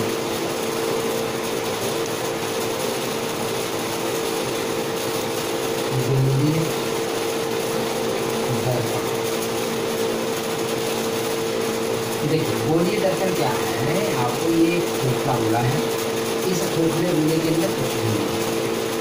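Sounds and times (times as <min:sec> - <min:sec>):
steady machine hum with hiss: 0:00.0 - 0:19.0.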